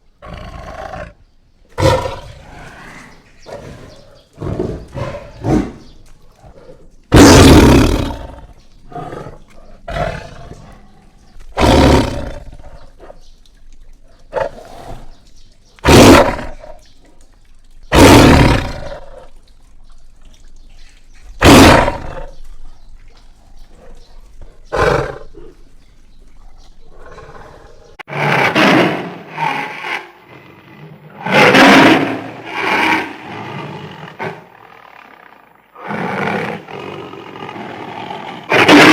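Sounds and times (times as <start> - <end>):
big cat roars and snarls: 1.8 - 13.2, 14.2 - 16.8, 17.9 - 19.3, 21.2 - 22.7, 23.3 - 25.7, 26.4 - 38.9.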